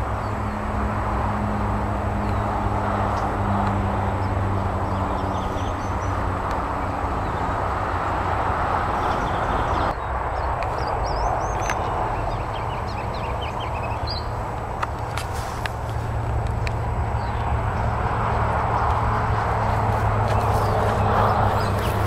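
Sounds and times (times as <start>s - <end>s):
steady rushing noise: 0.0s - 22.0s
small birds chirping: 2.2s - 7.7s, 8.8s - 22.0s.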